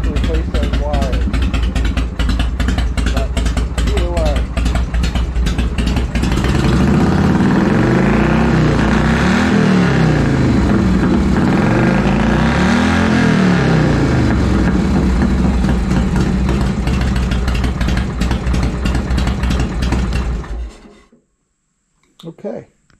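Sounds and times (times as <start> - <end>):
motorcycle engine revving: 0.0 - 20.7.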